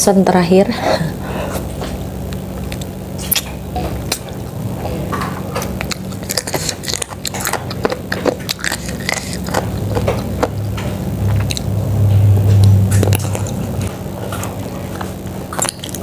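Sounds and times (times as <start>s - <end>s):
steady low hum: 0.0s - 16.0s
person chewing and lip-smacking: 1.5s - 16.0s.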